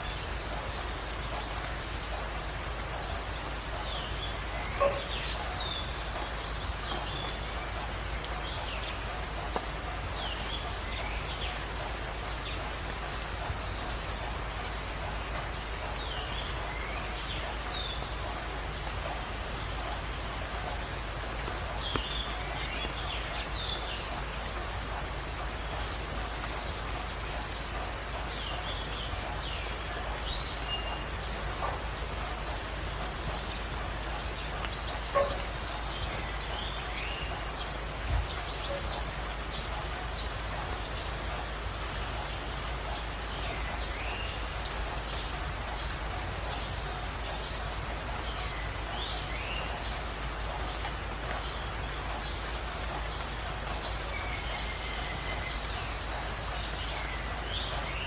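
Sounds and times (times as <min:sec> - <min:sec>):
birds singing: 0:00.0 - 0:58.0
flowing water rushing: 0:00.0 - 0:58.0.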